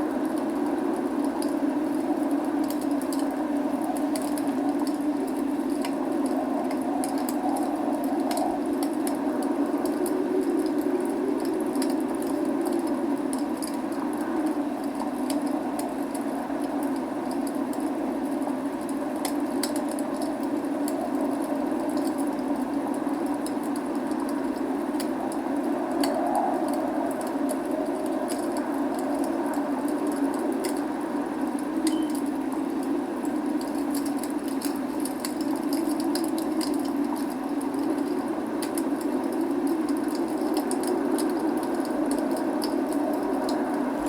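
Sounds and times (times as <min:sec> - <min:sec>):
steady rain: 0:00.0 - 0:44.0
log fire crackling and popping: 0:00.1 - 0:44.0.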